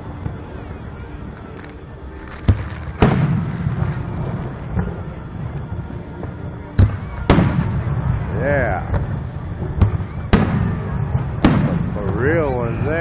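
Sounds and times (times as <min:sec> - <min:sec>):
fireworks shells booming: 0:00.0 - 0:12.3
low rolling rumble: 0:00.0 - 0:13.0.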